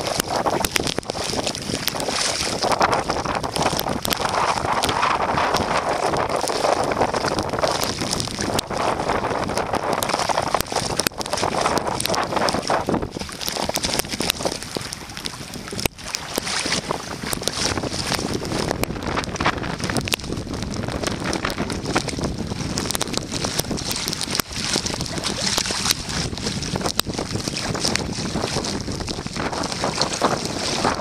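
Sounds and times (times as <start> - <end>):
water splashing around kayak: 0.0 - 31.0
wind buffeting microphone: 0.0 - 31.0.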